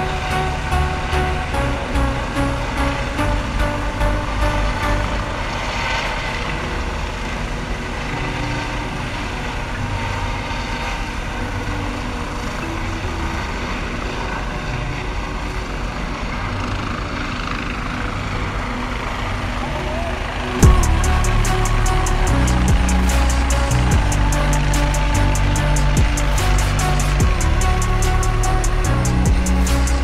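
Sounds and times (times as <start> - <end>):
helicopter hovering: 0.0 - 30.0.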